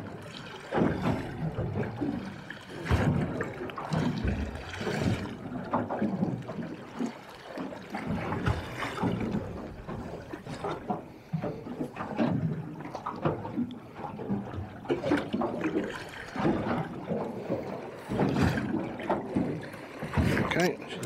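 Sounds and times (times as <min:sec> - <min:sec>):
water lapping against boat hull: 0:00.0 - 0:21.0.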